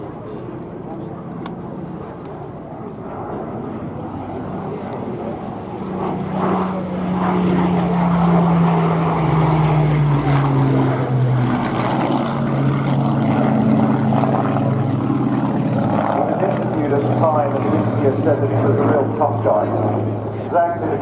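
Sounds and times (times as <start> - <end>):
propeller plane flying past: 0.0 - 21.0.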